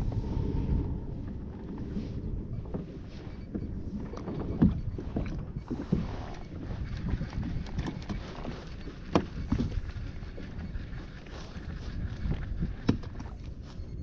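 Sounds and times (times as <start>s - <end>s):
waves lapping against hull: 0.0s - 14.0s
wind on microphone: 0.0s - 14.0s.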